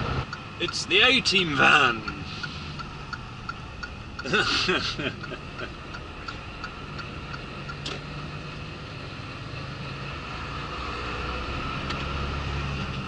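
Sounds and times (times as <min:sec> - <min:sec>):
lorry diesel engine: 0:00.0 - 0:13.0
road noise: 0:00.0 - 0:13.0.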